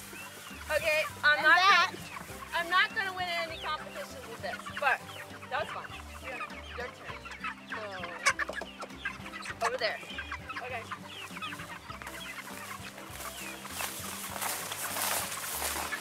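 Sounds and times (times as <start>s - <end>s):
chickens clucking and cheeping: 0.0s - 16.0s.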